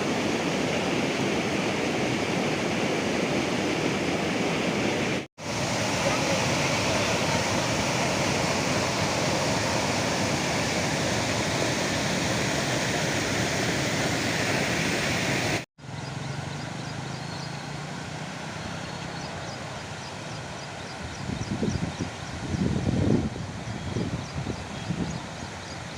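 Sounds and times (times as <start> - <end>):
water rushing roar: 0.0 - 25.9.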